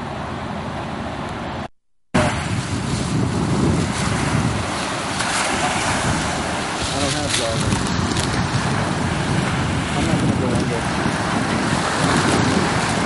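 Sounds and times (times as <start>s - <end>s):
small waves washing onto beach: 2.2s - 13.0s
wind buffeting microphone: 2.2s - 13.0s.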